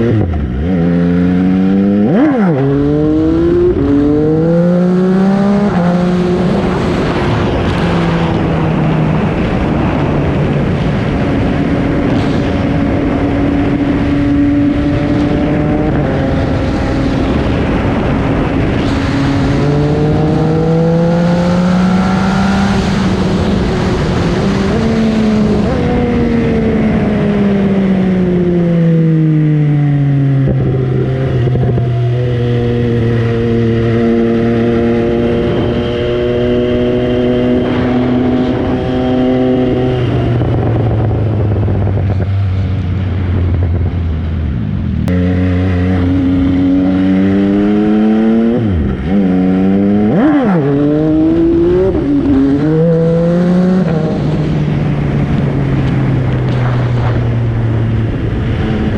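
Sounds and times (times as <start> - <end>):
motorcycle engine shifting gears: 0.0 - 58.9
wind and road noise: 0.0 - 58.9.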